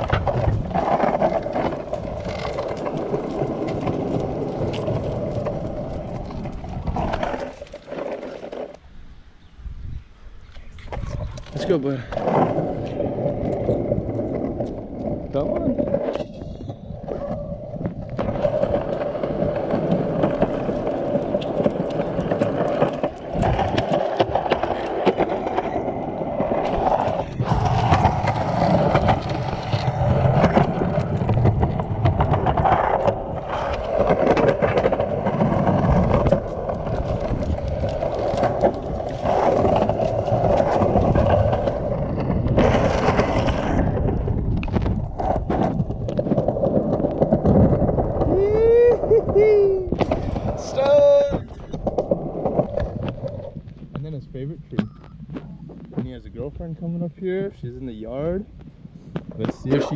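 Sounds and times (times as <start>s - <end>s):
skateboard wheels rolling on concrete: 0.0s - 59.9s.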